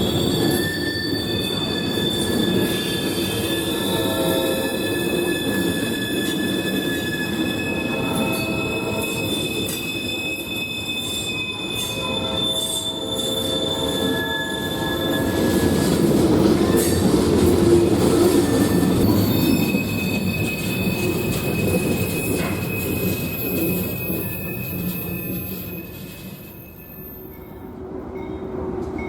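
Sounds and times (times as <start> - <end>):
train rolling rumble: 0.0 - 29.0
train wheels squealing: 0.0 - 29.0.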